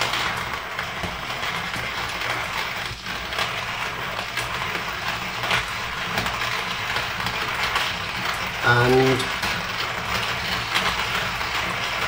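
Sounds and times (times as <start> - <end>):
coffee grinder crunching beans: 0.0 - 12.0.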